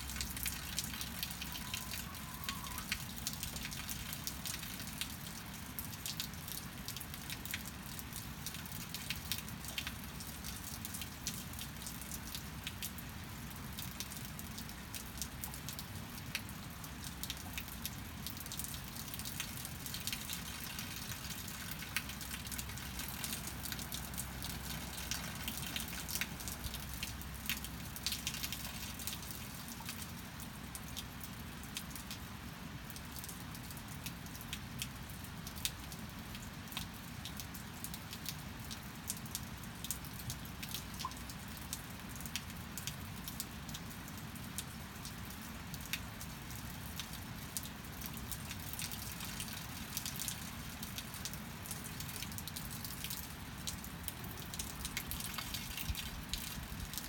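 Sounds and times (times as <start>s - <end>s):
raindrops ticking on surfaces: 0.0s - 57.0s
steady rain hiss: 0.0s - 57.0s.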